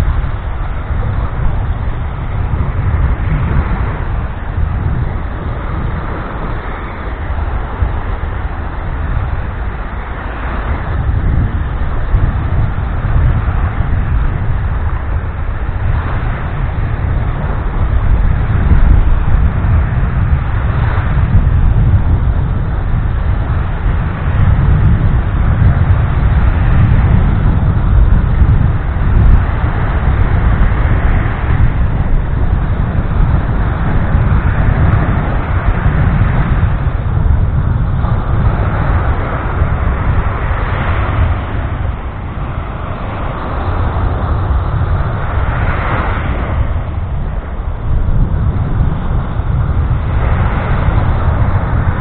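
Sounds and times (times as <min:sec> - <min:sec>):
surf washing over sand: 0:00.0 - 0:52.0
waves breaking on a beach: 0:00.0 - 0:52.0
wind buffeting microphone: 0:00.0 - 0:52.0.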